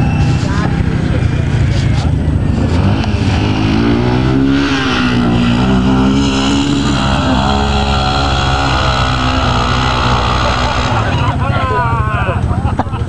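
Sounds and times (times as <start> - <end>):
atv engine revving: 0.0 - 13.0
steady low rumble: 0.0 - 13.0.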